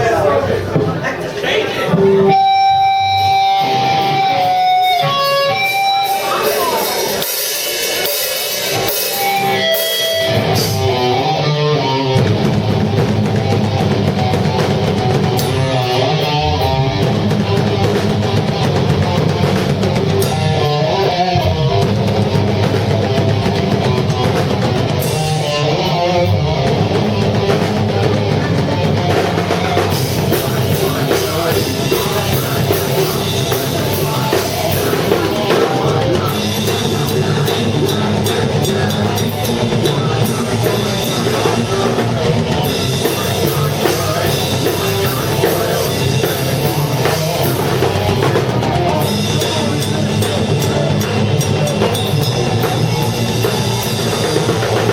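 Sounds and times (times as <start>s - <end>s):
drum kit: 0.0s - 54.9s
electric guitar: 1.7s - 54.9s.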